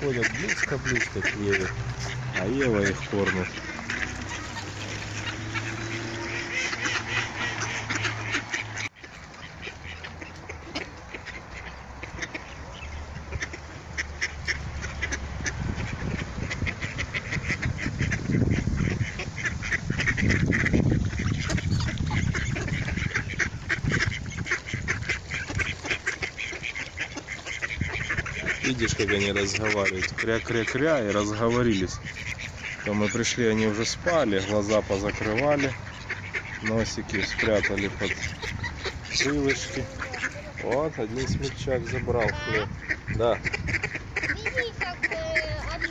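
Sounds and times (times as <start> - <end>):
ducks quacking: 0.0 - 45.9.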